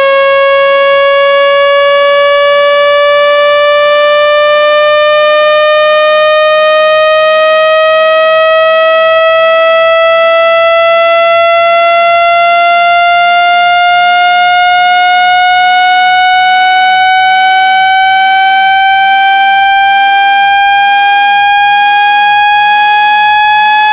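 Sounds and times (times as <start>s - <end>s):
buzzy rising test tone: 0.0s - 23.9s.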